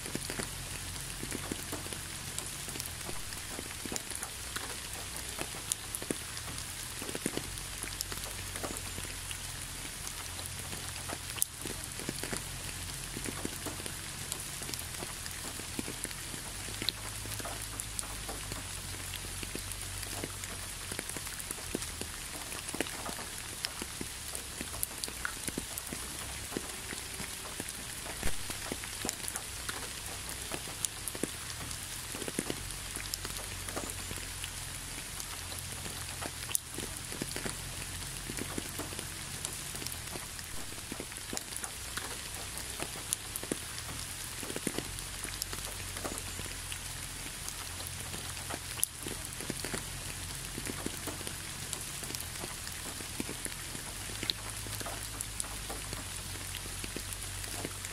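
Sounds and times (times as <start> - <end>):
gentle rain on leaves: 0.0 - 57.9
single raindrops ticking: 0.0 - 57.9.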